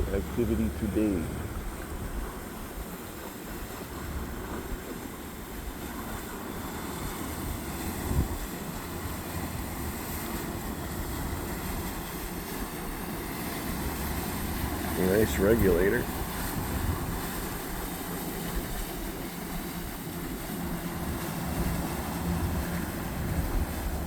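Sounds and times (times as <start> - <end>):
wind on microphone: 0.0 - 3.0, 3.6 - 24.0
motorboat engines rumbling: 0.0 - 24.0
water wash: 0.0 - 24.0.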